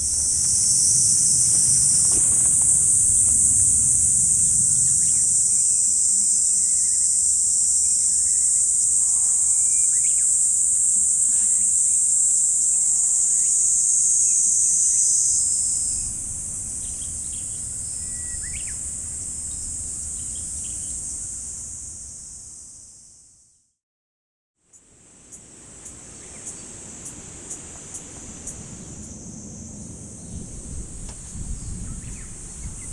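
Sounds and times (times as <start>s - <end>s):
insects chorus: 0.0s - 23.6s, 24.7s - 32.9s.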